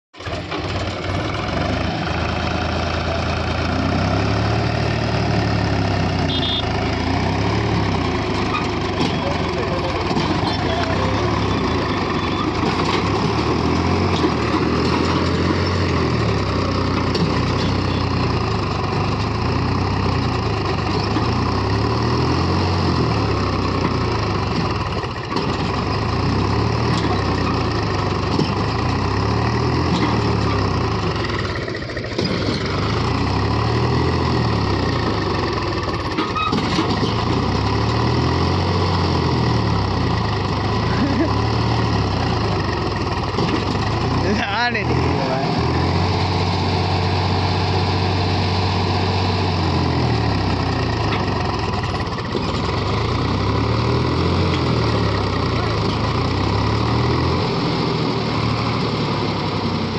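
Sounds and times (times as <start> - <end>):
tractor diesel engine straining: 0.2 - 59.9.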